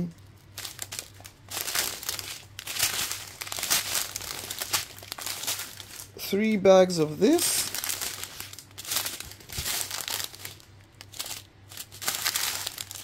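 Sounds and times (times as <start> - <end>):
faint low hum: 0.0 - 13.0
plastic bags crinkling: 0.3 - 6.3, 7.2 - 13.0.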